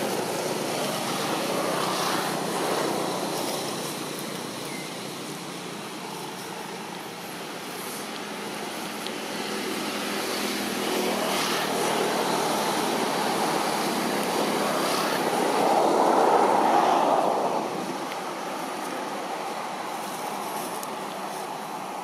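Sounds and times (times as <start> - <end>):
passing motor vehicle: 0.0 - 22.0.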